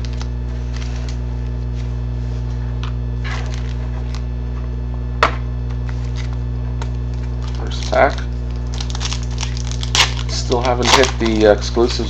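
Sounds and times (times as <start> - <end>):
card packs rustling: 0.0 - 4.3, 5.9 - 12.0
low electrical hum: 0.0 - 12.0.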